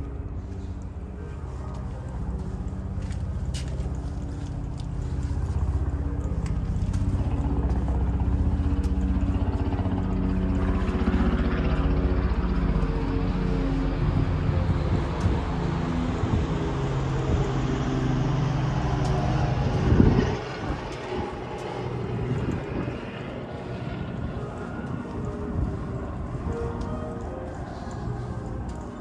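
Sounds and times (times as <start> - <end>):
low engine-like drone: 0.0 - 29.0.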